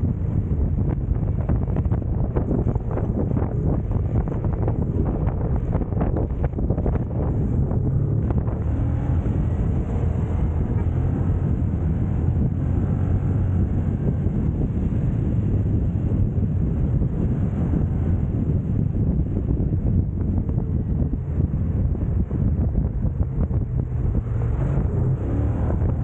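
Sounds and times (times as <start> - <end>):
motorcycle engine rumble: 0.0 - 26.0
wind rushing over microphone: 0.0 - 26.0.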